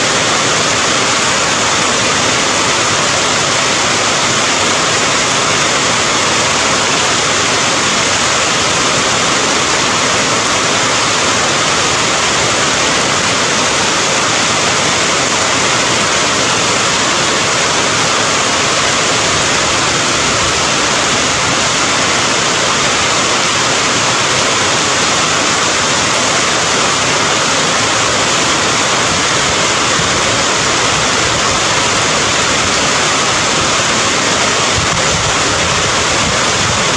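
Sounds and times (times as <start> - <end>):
rain falling: 0.0 - 36.9.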